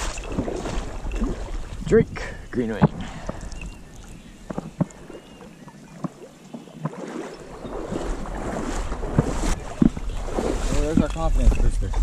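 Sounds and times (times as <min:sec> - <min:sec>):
water sloshing around waders: 0:00.0 - 0:12.0.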